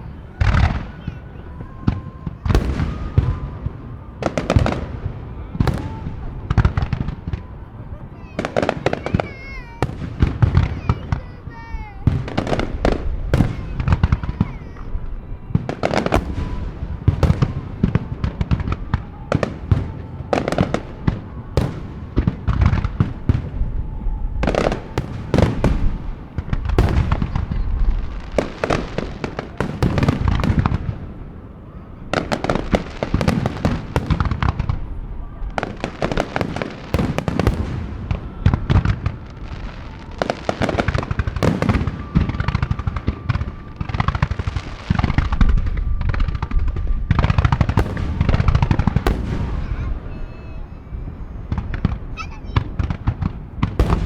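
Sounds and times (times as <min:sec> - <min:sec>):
fireworks booms and crackles: 0:00.0 - 0:54.0.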